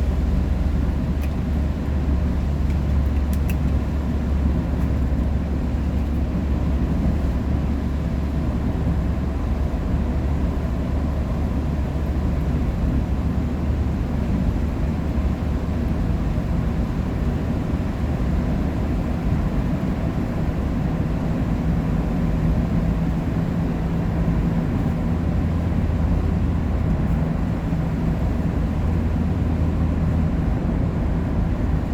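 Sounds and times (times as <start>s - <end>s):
road rumble: 0.0s - 31.9s
vehicle engine drone: 0.0s - 31.9s.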